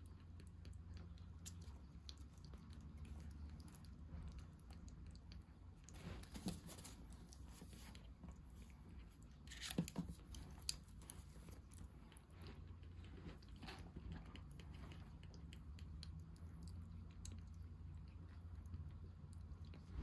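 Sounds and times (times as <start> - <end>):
kitten sucking and smacking: 0.0 - 20.0.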